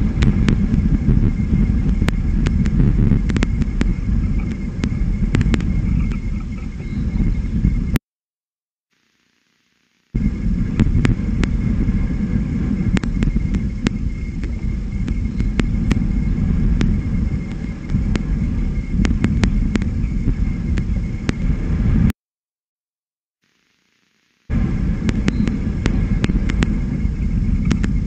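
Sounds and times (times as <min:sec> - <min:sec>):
wind buffeting microphone: 0:00.0 - 0:08.0, 0:10.2 - 0:22.1, 0:24.5 - 0:28.0.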